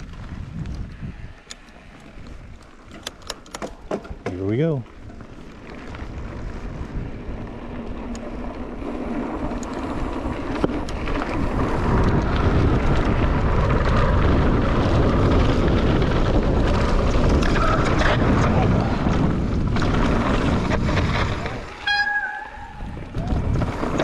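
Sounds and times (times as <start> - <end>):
bike tyres rolling on dirt: 0.0 - 24.0
wind buffeting microphone: 0.0 - 24.0.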